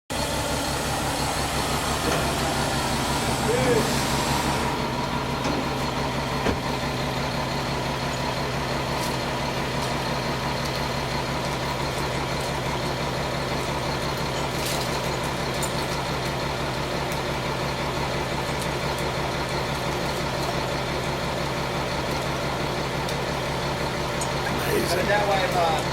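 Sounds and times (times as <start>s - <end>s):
large engine idling: 0.1s - 25.9s.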